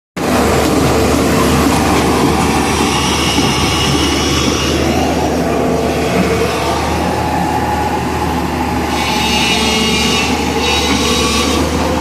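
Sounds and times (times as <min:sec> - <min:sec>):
diesel machinery engine rumble: 0:00.2 - 0:12.0.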